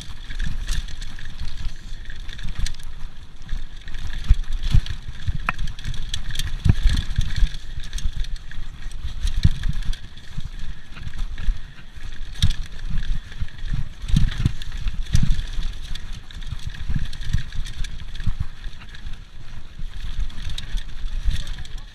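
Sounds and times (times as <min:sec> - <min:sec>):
bike knocking and rattling: 0:00.0 - 0:21.9
tyre noise: 0:00.0 - 0:21.9
wind rumble on microphone: 0:00.0 - 0:21.9.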